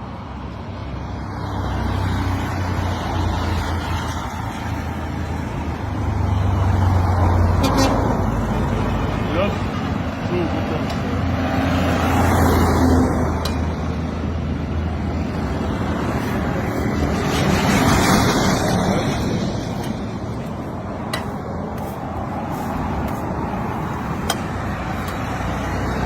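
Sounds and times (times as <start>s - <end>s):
vehicles passing close by: 0.0s - 26.0s.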